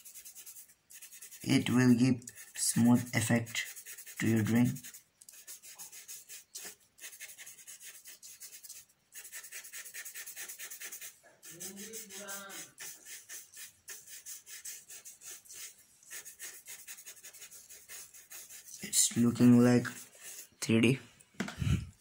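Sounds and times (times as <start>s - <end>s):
pencil shading on paper: 0.0s - 20.6s.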